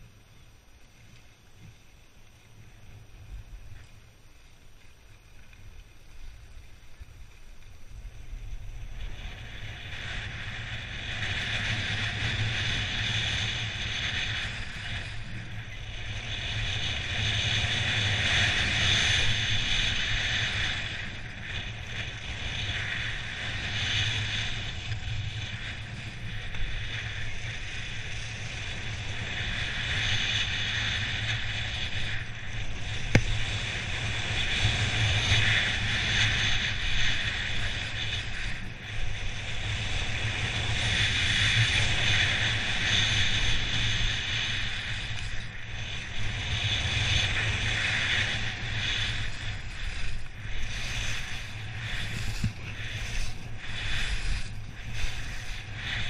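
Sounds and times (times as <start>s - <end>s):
skis scraping over snow: 0.0s - 56.0s
wind on microphone: 6.0s - 56.0s.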